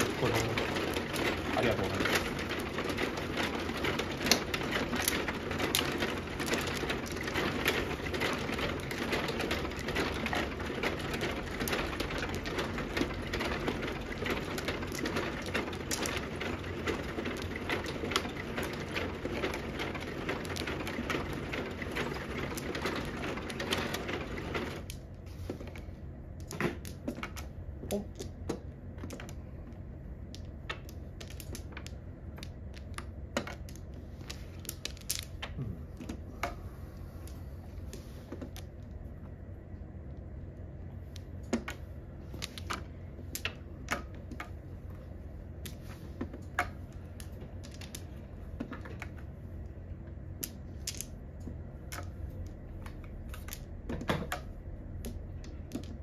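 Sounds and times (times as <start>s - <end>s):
dense mechanical rattle: 0.0s - 56.0s
mahjong tiles clacking: 0.0s - 56.0s.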